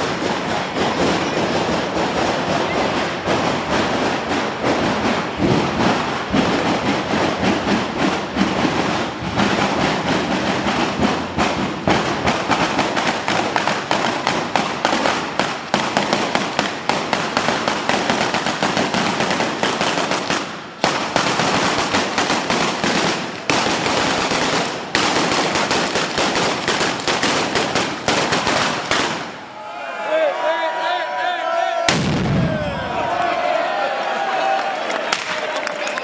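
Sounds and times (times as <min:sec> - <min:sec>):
firecrackers cracking rapidly: 0:00.0 - 0:29.6, 0:31.9 - 0:33.2, 0:34.4 - 0:36.0.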